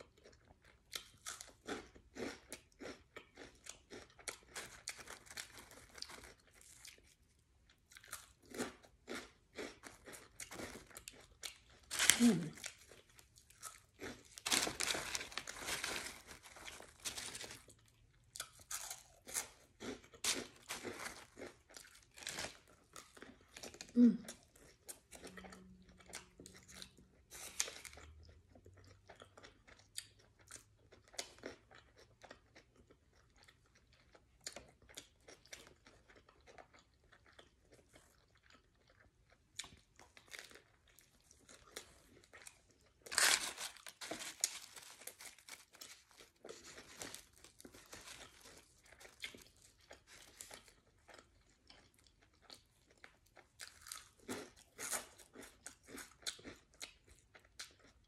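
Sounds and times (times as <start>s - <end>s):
chewing and biting sandwich: 0.0s - 58.0s.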